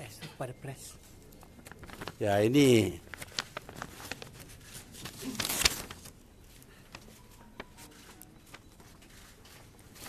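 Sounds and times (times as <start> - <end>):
paper rustling: 1.5 - 10.0.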